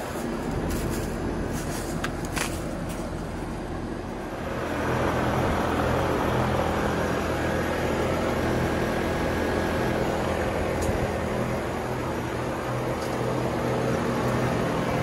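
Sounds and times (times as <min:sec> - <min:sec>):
condenser fan blowing: 0:00.0 - 0:15.0.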